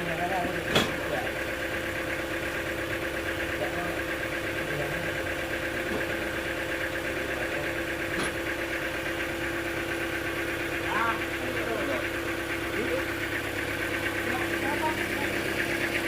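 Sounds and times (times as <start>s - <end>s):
sawmill machinery chugging: 0.0s - 16.0s.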